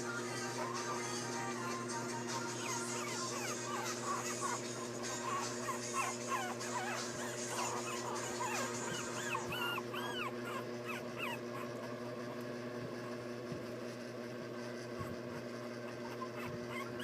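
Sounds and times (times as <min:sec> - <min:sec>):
puppies whimpering and squeaking: 0:00.0 - 0:12.5, 0:14.8 - 0:17.0.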